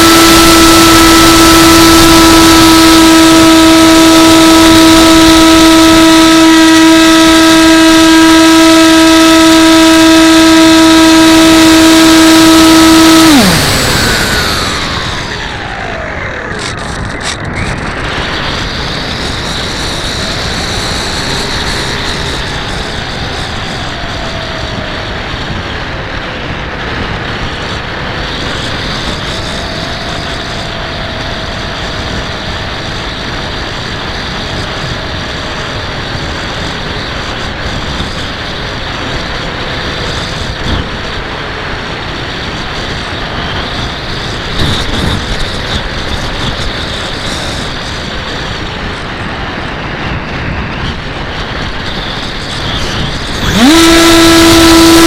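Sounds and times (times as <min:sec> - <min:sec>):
model plane motor whine: 0:00.0 - 0:55.0
wind noise on microphone: 0:00.0 - 0:55.0.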